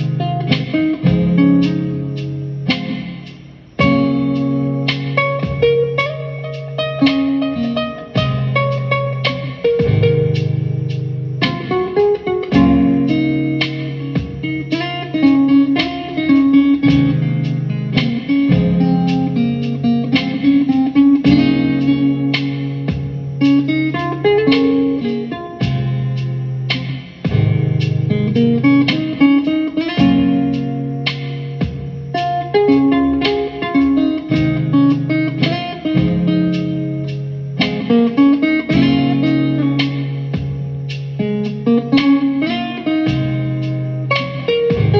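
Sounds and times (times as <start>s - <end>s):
bass line: 0.0s - 44.9s
soulful guitar music: 0.0s - 44.9s.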